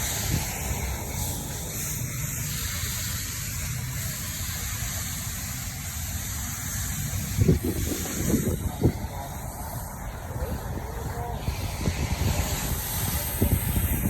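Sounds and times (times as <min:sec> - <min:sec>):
water spraying on air conditioner: 0:00.0 - 0:14.0.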